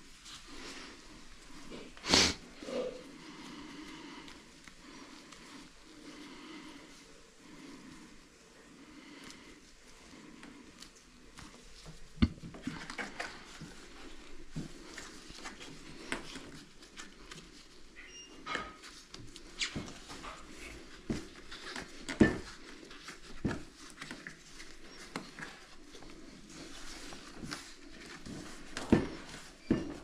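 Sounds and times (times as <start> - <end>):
small rustles: 0.0 - 30.0.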